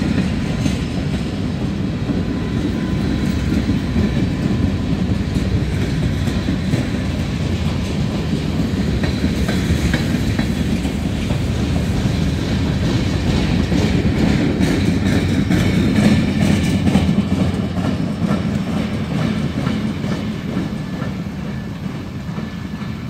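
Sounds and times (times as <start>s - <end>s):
train rumbling past: 0.0s - 23.0s
wheels clicking over rail joints: 0.0s - 23.0s.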